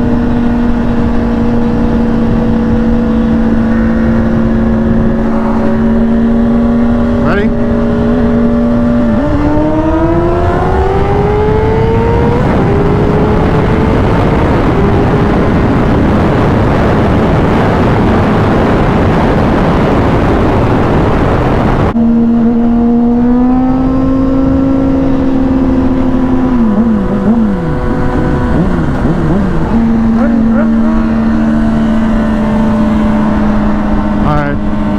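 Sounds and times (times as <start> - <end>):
motorcycle engine accelerating: 0.0 - 34.9
wind rush on microphone: 0.0 - 34.9.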